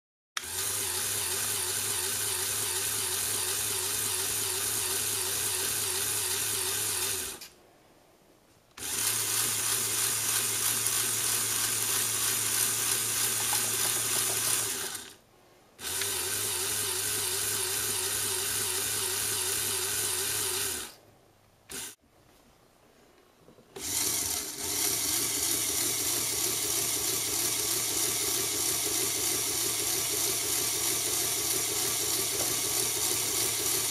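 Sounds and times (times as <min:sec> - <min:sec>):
small electric motor whirring: 0:00.4 - 0:07.6, 0:08.8 - 0:15.2, 0:15.8 - 0:21.0, 0:21.7 - 0:22.0, 0:23.8 - 0:33.9.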